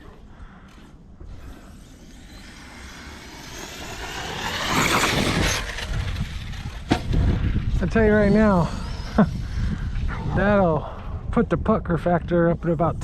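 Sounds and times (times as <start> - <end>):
electric motor and drivetrain whine: 0.6 - 11.1.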